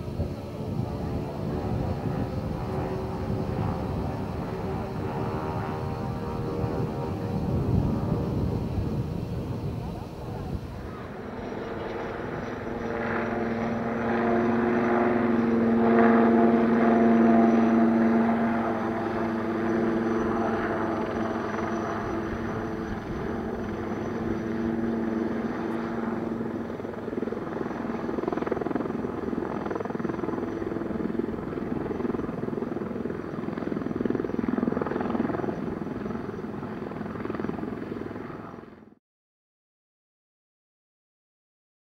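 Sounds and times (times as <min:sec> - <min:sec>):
helicopter rotor and engine: 0:00.0 - 0:39.0.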